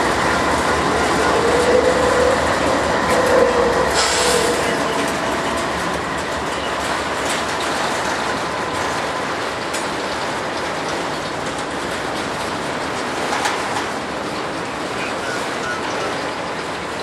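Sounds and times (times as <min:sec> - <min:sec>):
freight train rolling past: 0:00.0 - 0:17.0
wheels clicking over rail joints: 0:00.0 - 0:17.0.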